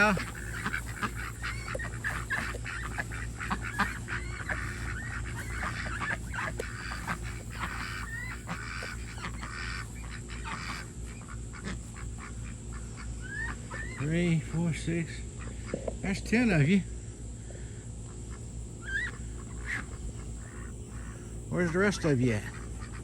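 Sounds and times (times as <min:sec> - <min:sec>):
ducks quacking: 0:00.0 - 0:16.8, 0:17.5 - 0:23.0.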